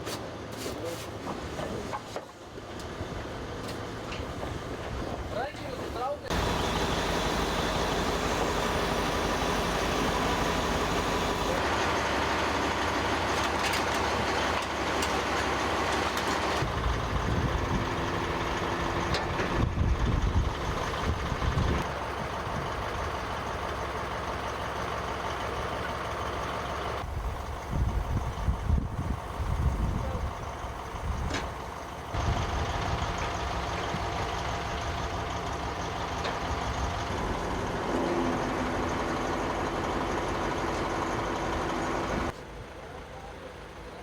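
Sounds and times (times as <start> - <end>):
heavy truck engines running: 1.2 - 44.0.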